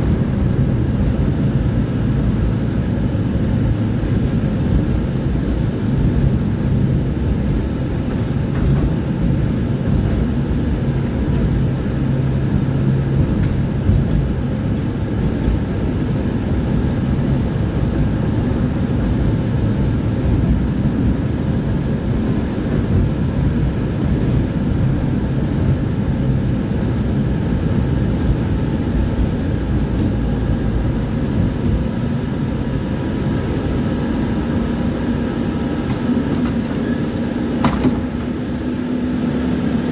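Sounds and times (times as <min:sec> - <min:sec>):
tram wheels rumbling on rails: 0:00.0 - 0:39.9.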